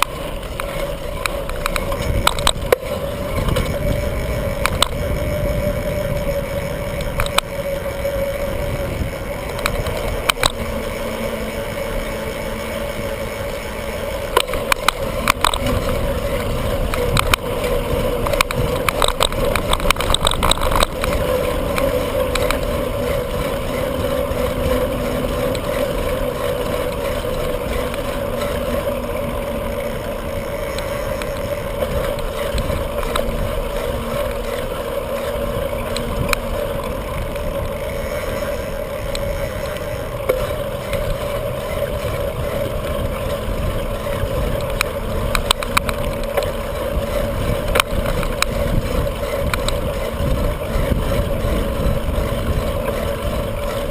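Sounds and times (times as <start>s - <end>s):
bicycle rattling clicks: 0.0s - 53.9s
bicycle rolling: 0.0s - 53.9s.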